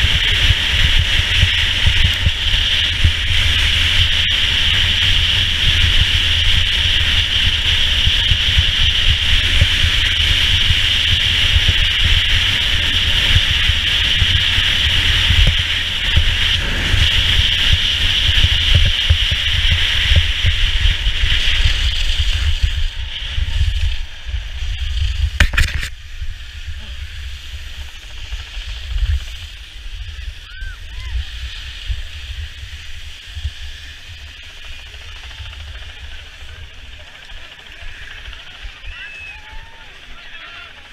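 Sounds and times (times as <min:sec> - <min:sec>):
skis hissing on snow: 0:00.0 - 0:35.2
wind buffeting microphone: 0:00.0 - 0:38.9.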